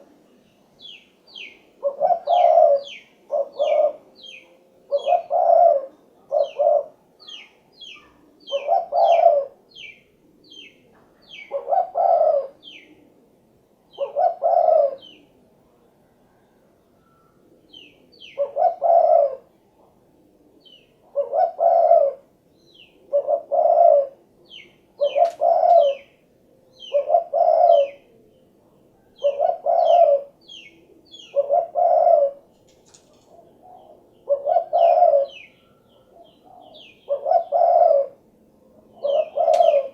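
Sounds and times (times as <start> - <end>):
dove cooing: 0.0 - 15.5, 16.1 - 39.9.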